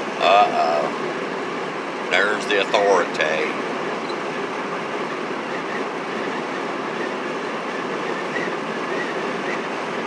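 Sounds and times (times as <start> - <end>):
road and tyre noise in cabin: 0.0 - 10.0.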